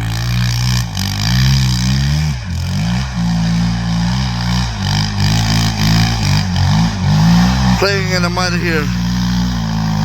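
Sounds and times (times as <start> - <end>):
quad engine revving: 0.0 - 10.0.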